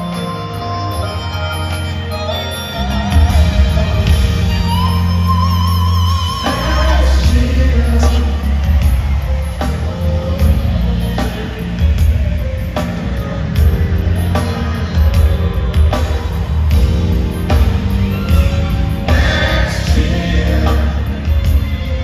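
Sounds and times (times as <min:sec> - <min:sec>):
live band through loudspeakers: 0:00.0 - 0:22.0
heavy bass: 0:02.8 - 0:22.0.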